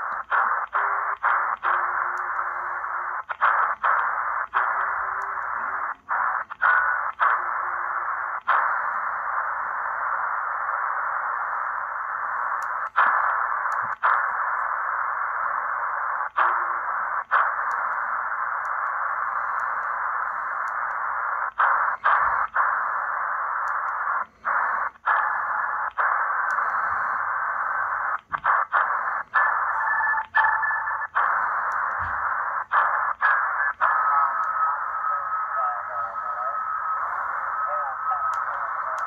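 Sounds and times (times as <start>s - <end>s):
faint steady whistle: 0.0s - 39.0s
shortwave radio static hiss: 0.0s - 39.0s.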